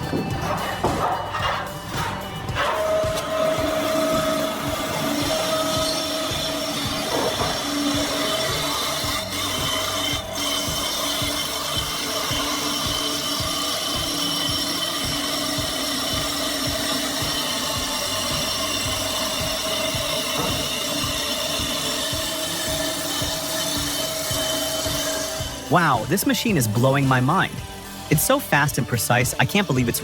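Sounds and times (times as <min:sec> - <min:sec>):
power saw cutting wood: 0:00.0 - 0:30.0.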